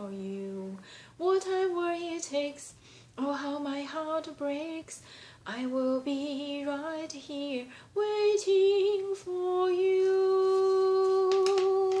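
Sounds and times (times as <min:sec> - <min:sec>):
woman singing a ballad: 0:00.0 - 0:12.0.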